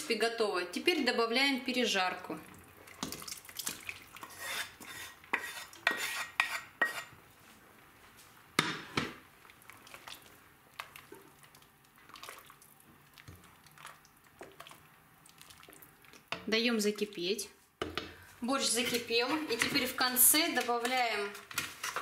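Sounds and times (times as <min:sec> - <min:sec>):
stirring in a pot: 0:02.4 - 0:07.2, 0:08.9 - 0:22.0.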